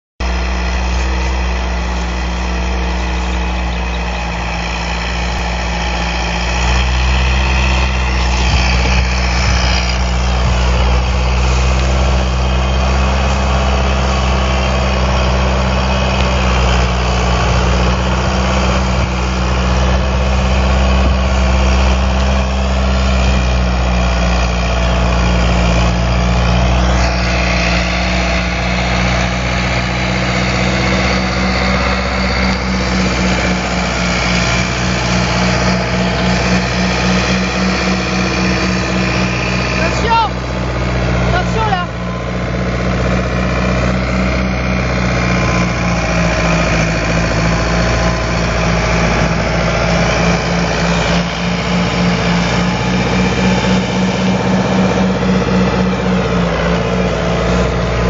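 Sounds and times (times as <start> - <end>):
tractor diesel engine running: 0.2 - 58.0.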